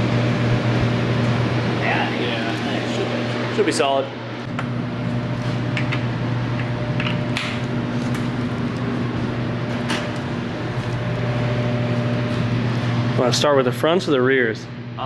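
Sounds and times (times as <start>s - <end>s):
cooling fan humming: 0.0s - 15.0s.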